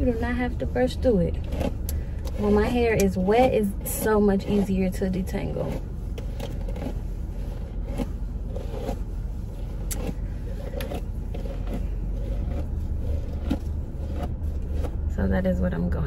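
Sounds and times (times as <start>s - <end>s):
car idling rumble: 0.0s - 16.0s.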